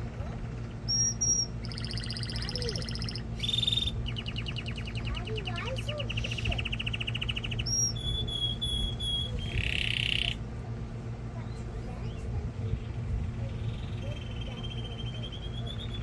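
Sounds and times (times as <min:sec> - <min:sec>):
steady low hum: 0:00.0 - 0:16.0
canary singing trills: 0:00.3 - 0:10.4, 0:12.0 - 0:16.0.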